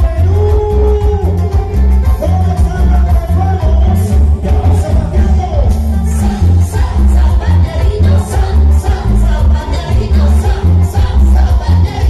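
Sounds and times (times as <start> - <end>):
live cumbia band through pa: 0.0 - 12.0.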